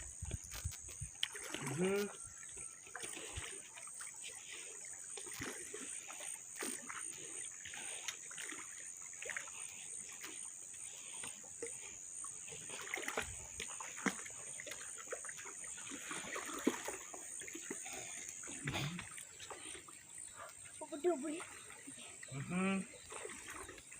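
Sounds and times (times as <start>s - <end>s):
water splashing and trickling: 0.0s - 23.9s.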